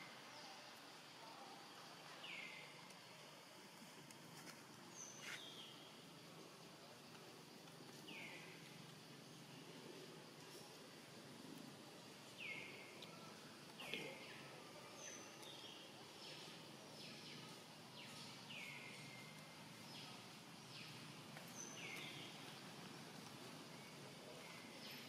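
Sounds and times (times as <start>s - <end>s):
low outdoor background hiss: 0.0s - 25.0s.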